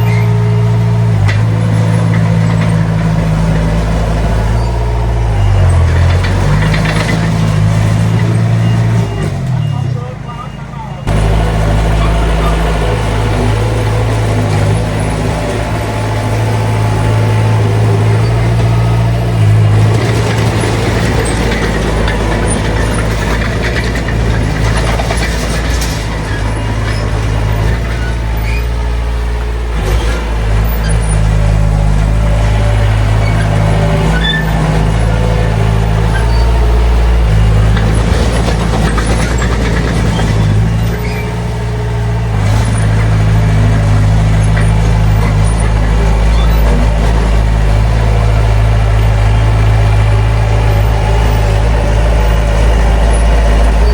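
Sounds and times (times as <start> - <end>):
heavy diesel engines under load: 0.0 - 53.9.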